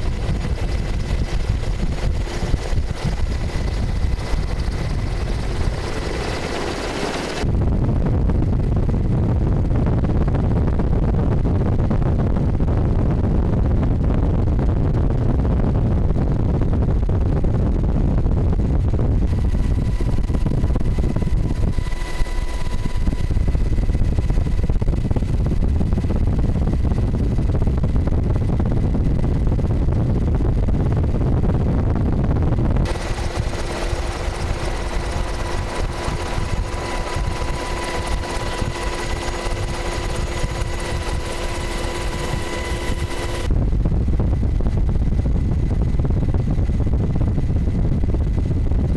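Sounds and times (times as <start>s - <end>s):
helicopter running: 0.0s - 48.9s.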